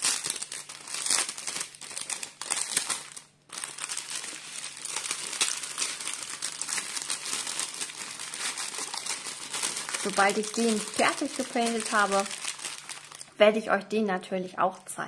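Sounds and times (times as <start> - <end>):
plastic bags crinkling: 0.0 - 13.4.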